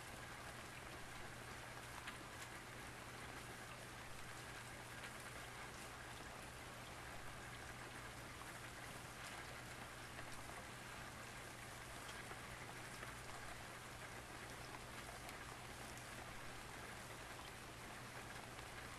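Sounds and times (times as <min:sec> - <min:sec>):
light rain pattering: 0:00.0 - 0:18.9.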